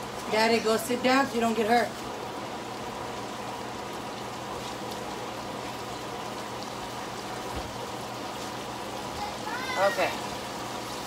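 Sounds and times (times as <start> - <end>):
patties sizzling in frying pan: 0.0 - 11.0.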